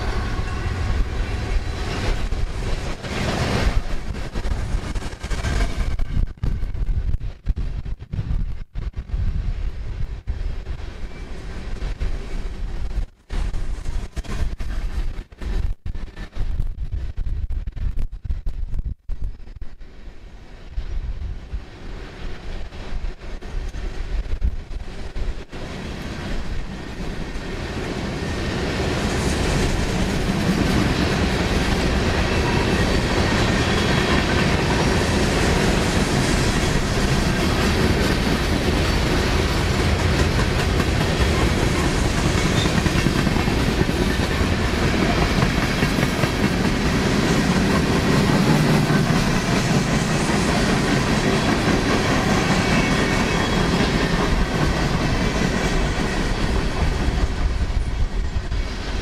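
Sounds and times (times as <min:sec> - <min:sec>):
hopper cars rumbling on rails: 0:00.0 - 0:18.4, 0:19.7 - 0:59.0.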